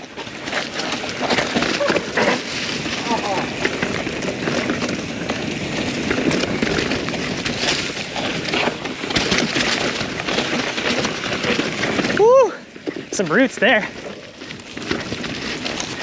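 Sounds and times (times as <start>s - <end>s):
bike rattling: 0.0s - 16.0s
bike tyres crunching over dirt: 0.0s - 16.0s
wheels knocking on obstacles: 0.0s - 16.0s.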